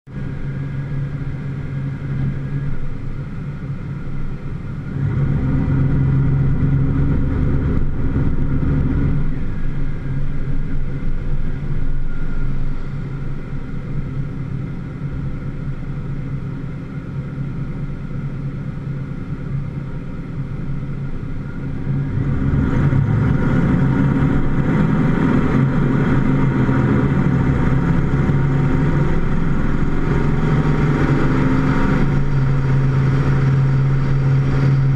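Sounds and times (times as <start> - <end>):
road noise: 0.0 - 34.9
vehicle engine idling and revving: 0.0 - 34.9.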